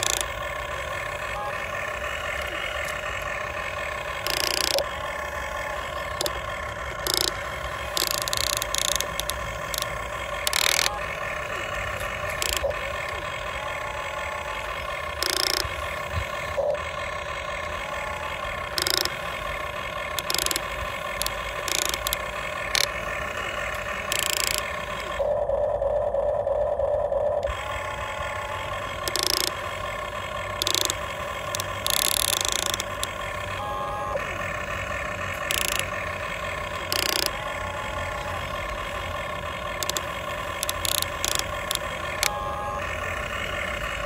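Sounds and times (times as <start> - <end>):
electric gear motors whining: 0.0 - 44.0
low motor hum: 0.0 - 44.0.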